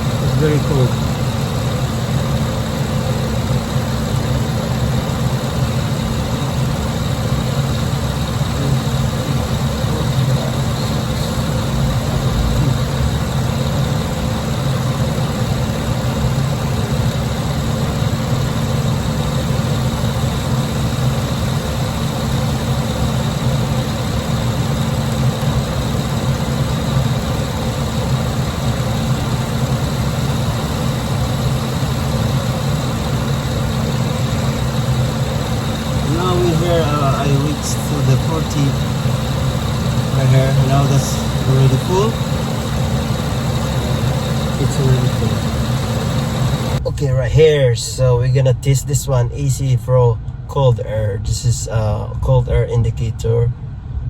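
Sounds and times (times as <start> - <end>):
air conditioning compressor running: 0.0 - 54.0
car engine idling: 0.0 - 54.0.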